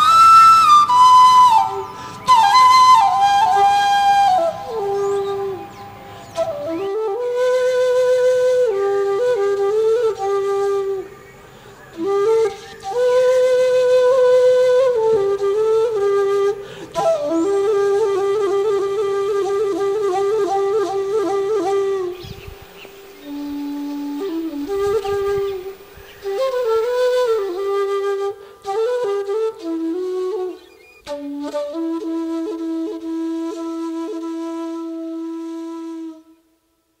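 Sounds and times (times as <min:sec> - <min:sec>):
flute playing slow melody: 0:00.0 - 0:36.9.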